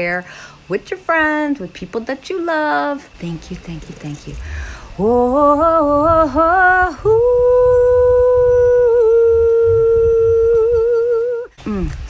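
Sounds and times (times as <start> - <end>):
woman singing: 0.7 - 11.9.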